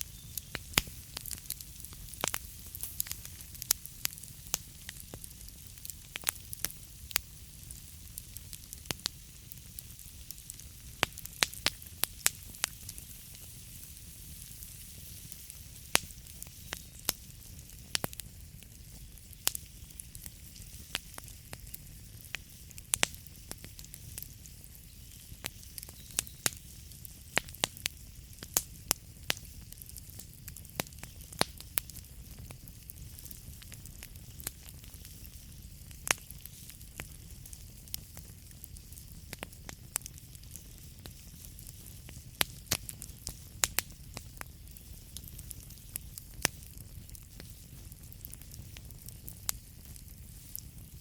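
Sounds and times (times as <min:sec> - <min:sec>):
burning wood crackling and popping: 0:00.0 - 0:51.0
fire hissing and rumbling: 0:00.0 - 0:51.0.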